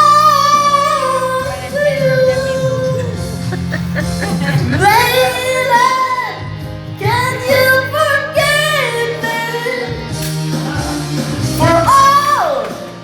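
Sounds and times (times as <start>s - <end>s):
instrumental backing: 0.0s - 13.0s
pop ballad with high voice singing: 0.0s - 13.0s.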